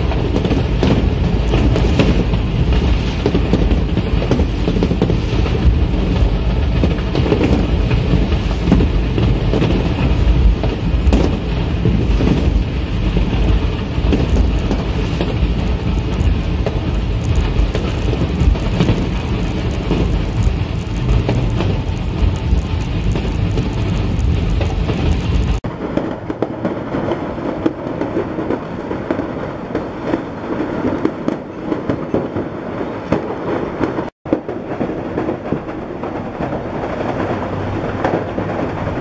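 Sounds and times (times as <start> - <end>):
fireworks crackling and popping: 0.0 - 39.0
heavy low fire rumble: 0.0 - 39.0.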